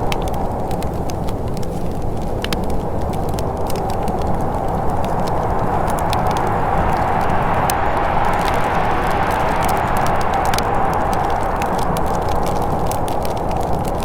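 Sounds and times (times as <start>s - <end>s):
wood fire crackling: 0.0s - 14.0s
low rushing noise: 1.9s - 14.0s.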